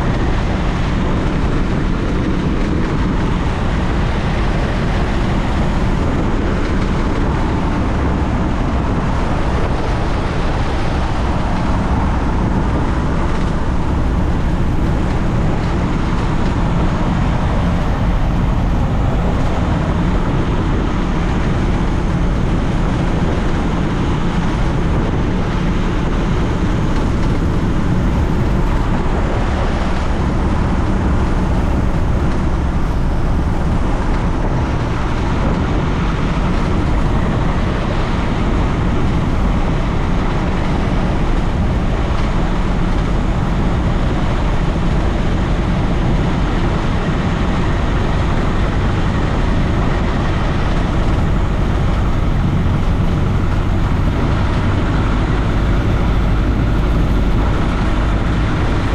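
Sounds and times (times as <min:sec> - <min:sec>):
small plane engine and propeller: 0:00.0 - 0:58.9.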